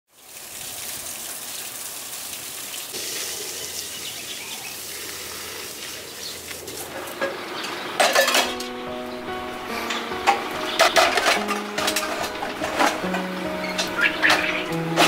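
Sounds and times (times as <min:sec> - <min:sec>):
steady outdoor hiss: 0:00.2 - 0:15.0.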